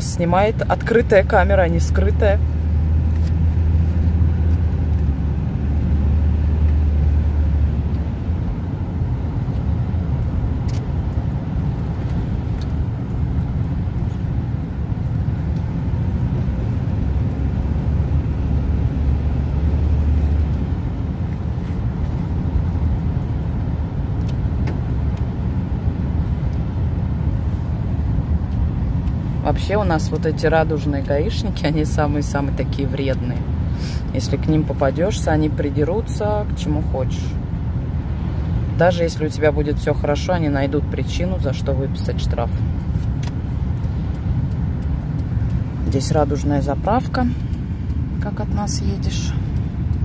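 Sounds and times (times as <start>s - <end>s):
car engine and tyres rumbling: 0.0s - 50.0s.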